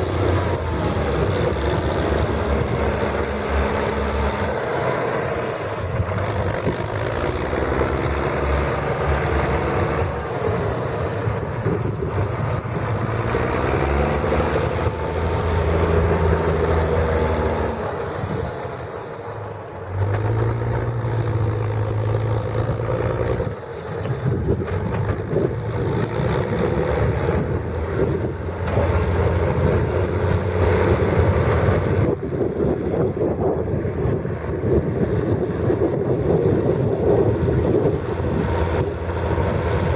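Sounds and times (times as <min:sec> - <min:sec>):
tractor diesel engine revving: 0:00.0 - 0:39.9.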